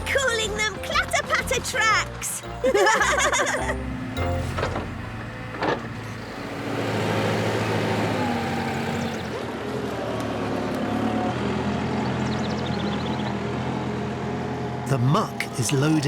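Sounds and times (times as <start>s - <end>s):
farm machine engine running: 0.0s - 9.4s, 10.3s - 16.0s.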